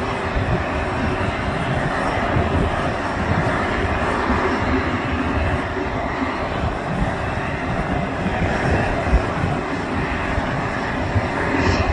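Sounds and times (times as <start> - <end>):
jet engine roar: 0.0 - 11.9
low rumble: 0.0 - 11.9.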